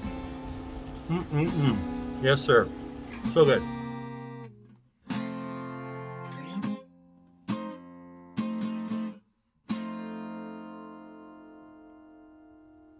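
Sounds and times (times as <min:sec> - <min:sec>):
strummed guitar chords: 0:00.0 - 0:12.9.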